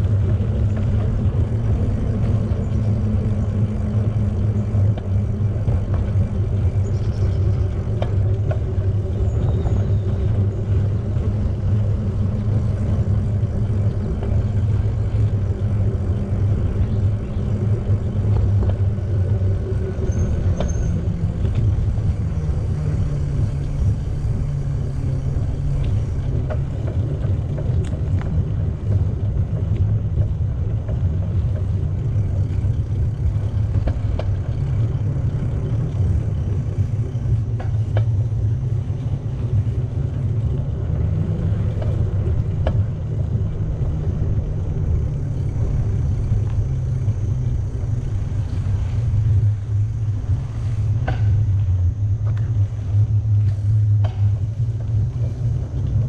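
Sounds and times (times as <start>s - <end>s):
bicycle tyre noise: 0.0s - 56.0s
wind on microphone: 0.0s - 56.0s.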